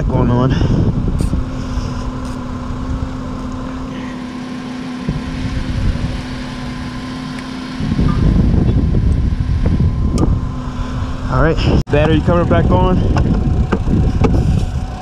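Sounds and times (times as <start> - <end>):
heavy low rumble: 0.0 - 4.2, 5.0 - 15.0
low mechanical hum: 0.0 - 15.0.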